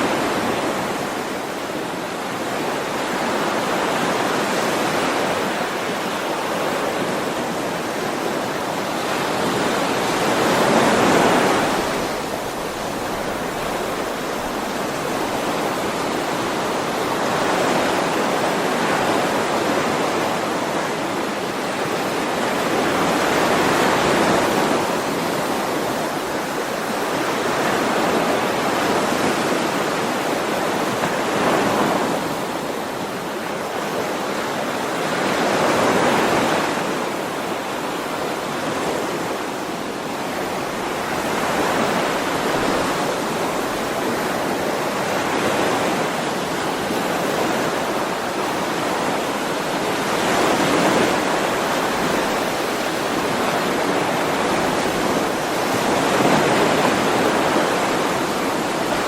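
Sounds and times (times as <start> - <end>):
ocean waves surf: 0.0 - 59.0.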